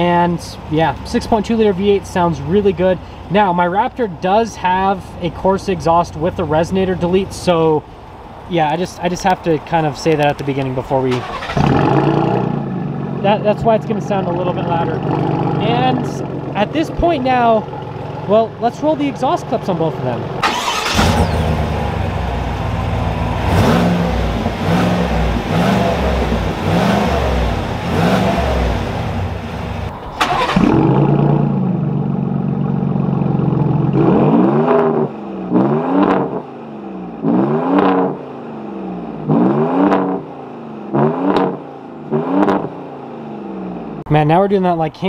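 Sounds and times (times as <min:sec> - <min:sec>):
pickup engine revving: 0:00.0 - 0:44.1
engine idling and blipped: 0:00.0 - 0:45.0.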